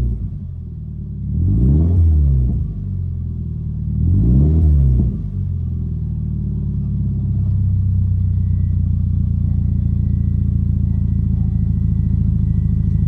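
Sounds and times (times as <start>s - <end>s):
car engine idling: 0.0s - 1.5s, 2.5s - 4.1s, 5.2s - 13.0s.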